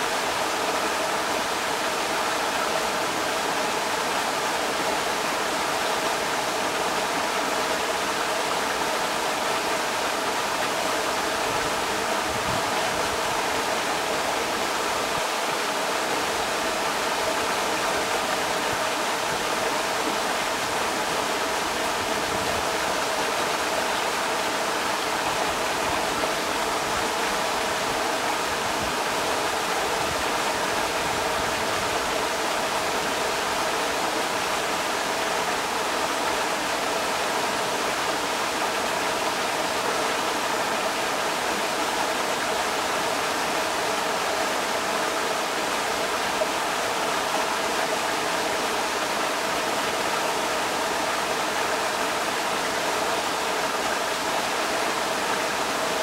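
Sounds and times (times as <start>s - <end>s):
creek water rushing over rocks: 0.0s - 56.0s.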